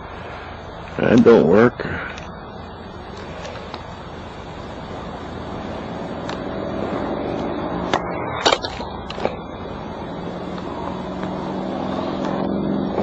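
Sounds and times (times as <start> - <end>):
outdoor rumble: 0.0 - 13.0
vehicle engine: 0.0 - 13.0.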